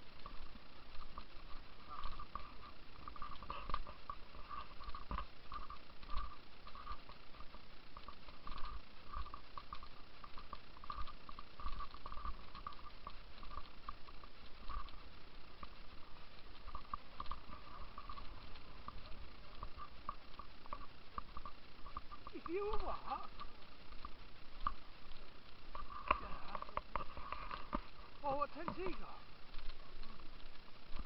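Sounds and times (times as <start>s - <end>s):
footsteps on rough path: 0.0s - 31.0s.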